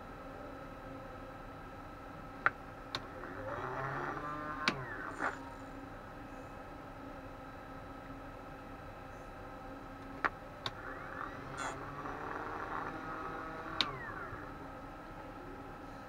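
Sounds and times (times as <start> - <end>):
small cooling fan whirring: 0.0 - 16.0.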